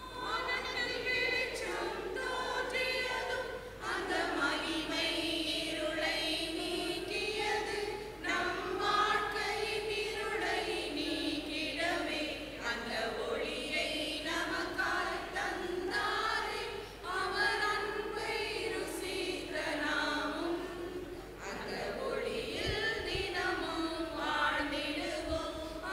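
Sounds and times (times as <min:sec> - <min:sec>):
choir singing a carol: 0:00.0 - 0:25.9.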